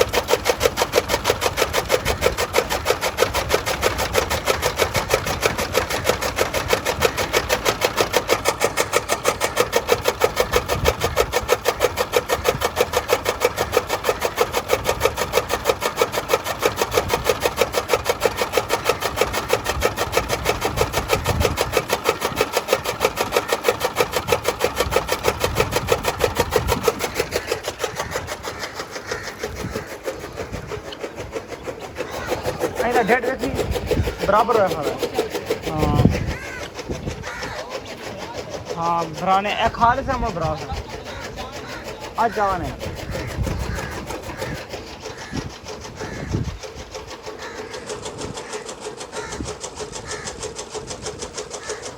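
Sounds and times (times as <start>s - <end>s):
chaff cutter blades chopping fodder: 0.0s - 51.9s.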